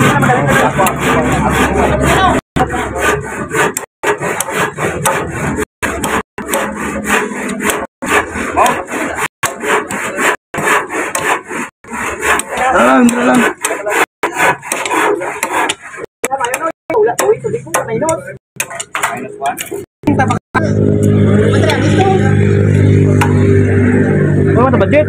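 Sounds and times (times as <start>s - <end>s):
string rubbing and scraping on wood: 0.0s - 25.0s.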